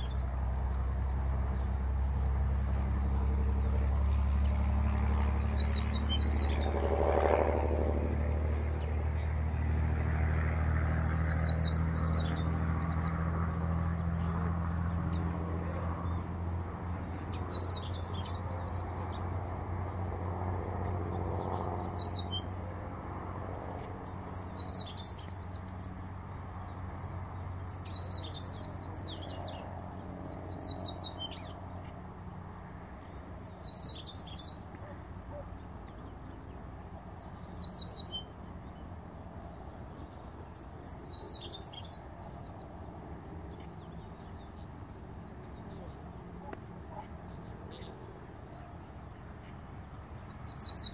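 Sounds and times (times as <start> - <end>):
bird singing trilled phrases: 0.0 - 3.7, 4.4 - 7.3, 10.7 - 13.5, 14.1 - 22.6, 23.8 - 32.2, 32.8 - 50.9.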